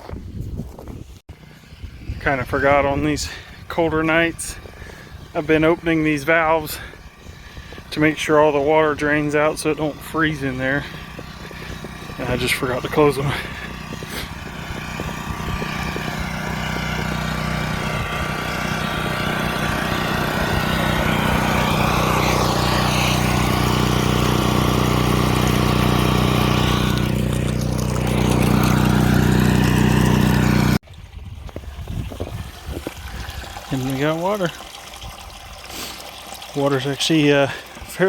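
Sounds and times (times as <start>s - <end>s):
generator engine running: 1.3s - 30.8s, 31.4s - 38.0s.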